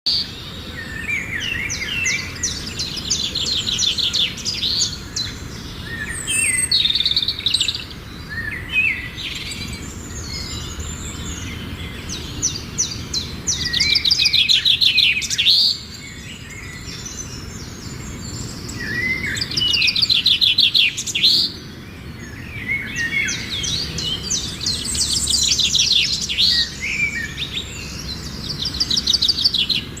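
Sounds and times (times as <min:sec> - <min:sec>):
birds singing chirping trills: 0:00.1 - 0:30.0.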